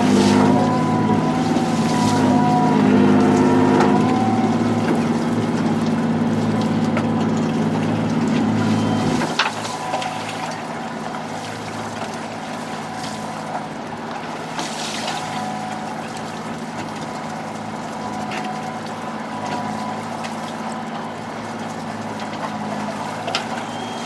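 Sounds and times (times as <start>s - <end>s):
boat engine running: 0.0s - 24.0s
water noise: 0.0s - 24.0s.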